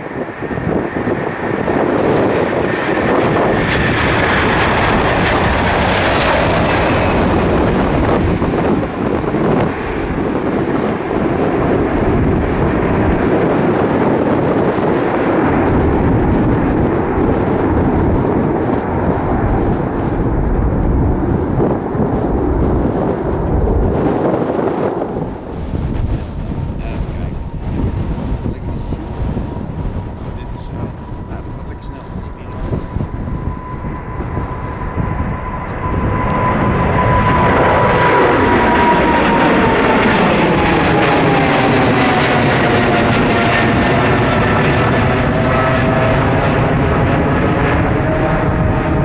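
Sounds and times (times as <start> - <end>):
deep rumble: 0.0 - 49.0
jet airliner engines passing: 0.0 - 49.0.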